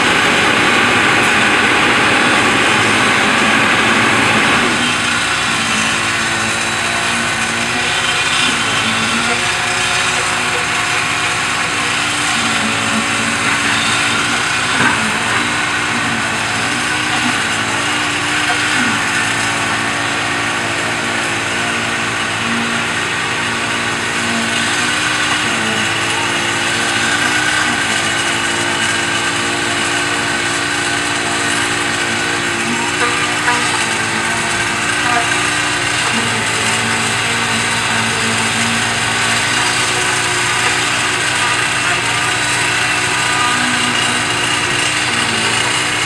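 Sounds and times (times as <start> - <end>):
concrete pouring down chute: 0.0 - 46.0
diesel engine running: 0.0 - 46.0.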